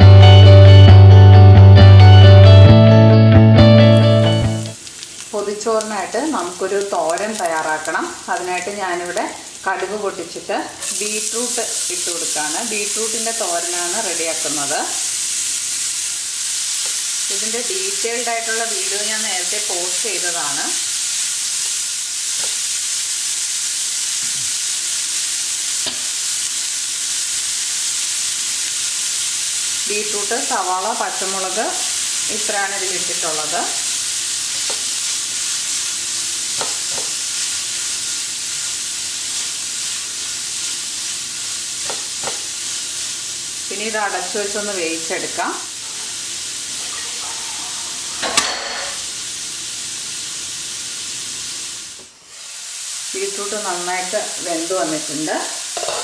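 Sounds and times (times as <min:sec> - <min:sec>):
beetroot sizzling in a pan: 0:04.0 - 0:56.0.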